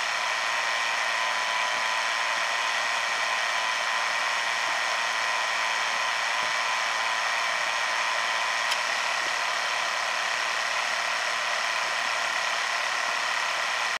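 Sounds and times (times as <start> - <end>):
car engine idling: 0.0 - 14.0
high-pitched pulley whine: 0.0 - 14.0.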